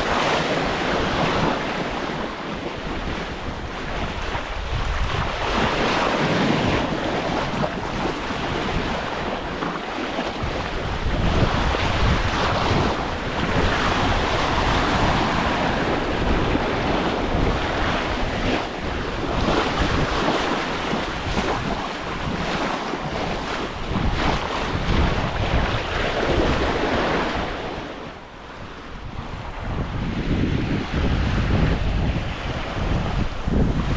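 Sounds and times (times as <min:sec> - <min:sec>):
waves sloshing along hull: 0:00.0 - 0:33.9
wind buffeting microphone: 0:00.0 - 0:33.9.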